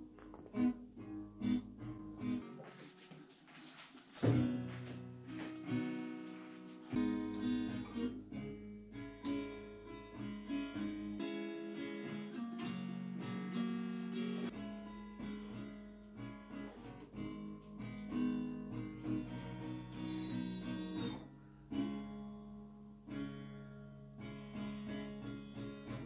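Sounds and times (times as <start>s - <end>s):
acoustic guitar strumming and picking: 0.0s - 3.1s, 3.7s - 22.4s.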